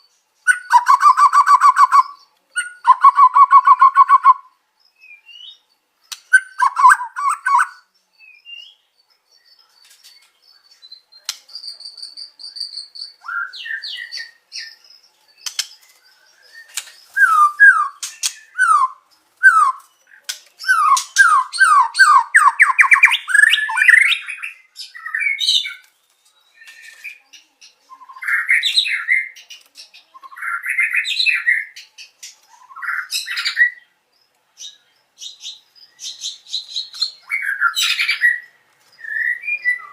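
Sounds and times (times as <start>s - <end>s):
songbird singing whistled song: 0.0s - 39.9s.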